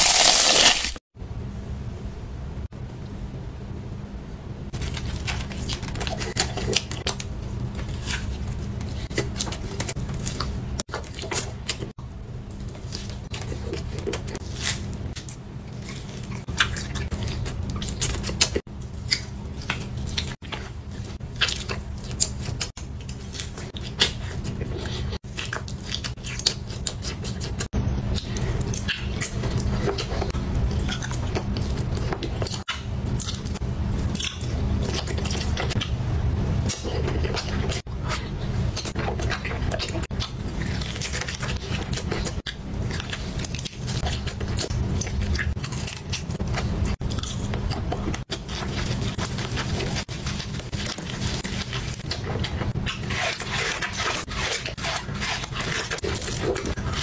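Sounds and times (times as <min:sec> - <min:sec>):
steady low hum: 0:01.2 - 0:57.0
chewing: 0:04.8 - 0:12.0, 0:12.6 - 0:57.0.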